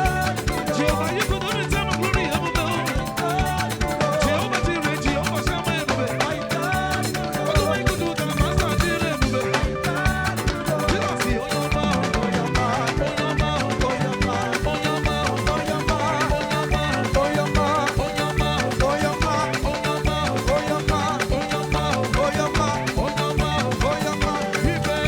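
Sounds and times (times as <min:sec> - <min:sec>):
live band playing gospel music: 0:00.0 - 0:25.0.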